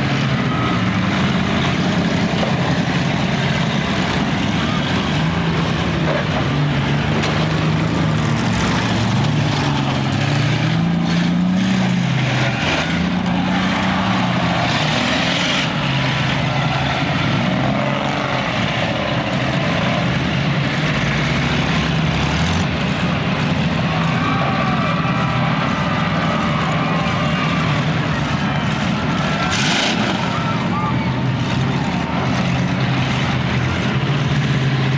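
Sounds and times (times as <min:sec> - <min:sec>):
car engines revving: 0:00.0 - 0:34.9.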